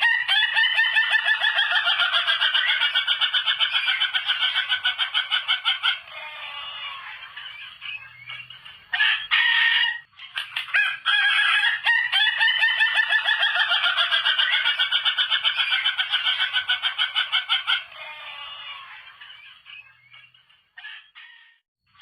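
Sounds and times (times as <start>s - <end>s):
rooster crowing: 0.0s - 7.6s, 8.9s - 19.2s, 20.8s - 21.6s.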